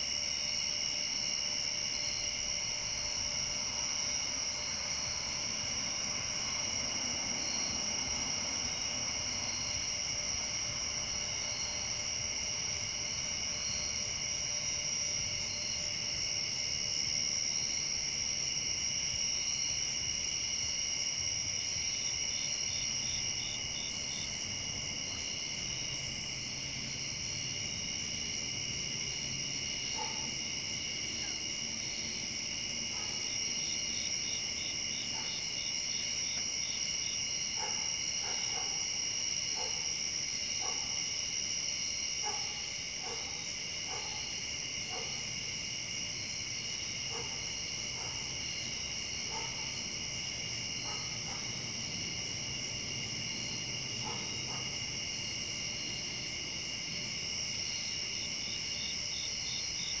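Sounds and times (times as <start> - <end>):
crickets trilling: 0.0 - 60.0.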